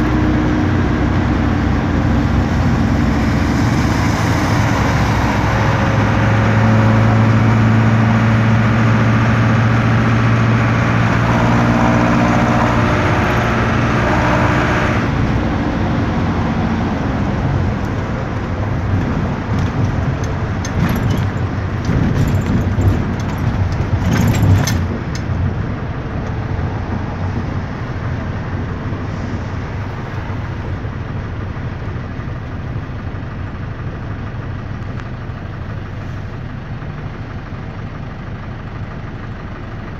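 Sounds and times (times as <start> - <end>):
diesel engine pulling under load: 0.0 - 39.9.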